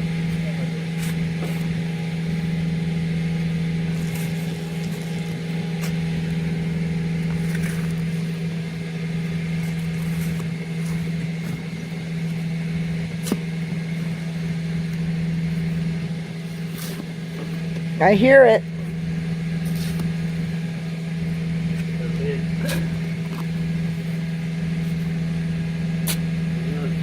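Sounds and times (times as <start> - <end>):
truck engine and vacuum pump drone: 0.0 - 27.0.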